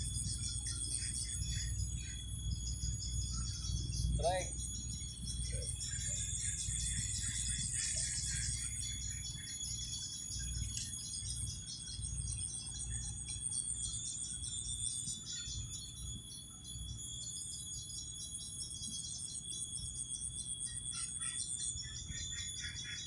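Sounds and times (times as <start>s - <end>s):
high-pitched insect whines: 0.0s - 23.0s
insects pulsing chirps: 0.0s - 23.0s.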